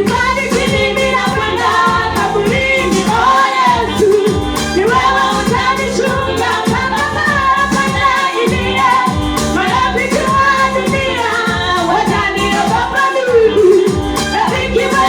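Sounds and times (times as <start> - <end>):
choir singing: 0.0 - 15.0
drum beat: 0.0 - 15.0.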